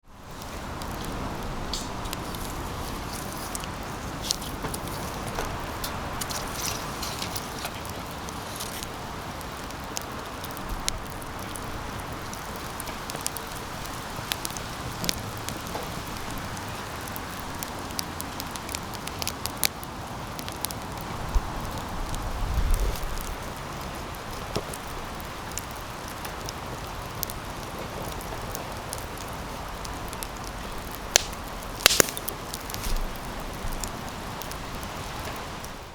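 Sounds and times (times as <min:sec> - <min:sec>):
wood fire crackling: 0:00.1 - 0:35.9.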